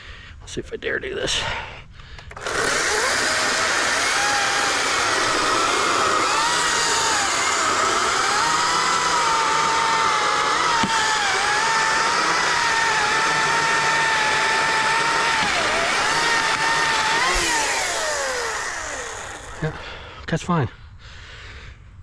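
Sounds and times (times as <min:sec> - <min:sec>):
electric chainsaw cutting log: 0:02.2 - 0:19.9.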